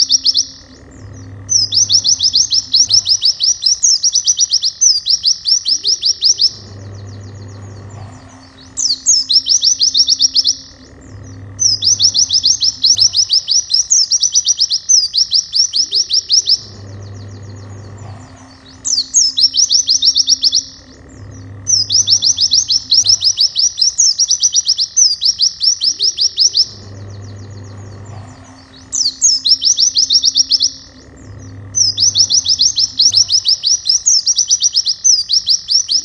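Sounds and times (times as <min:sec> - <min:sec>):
bird song with quick rising notes: 0:00.0 - 0:36.0.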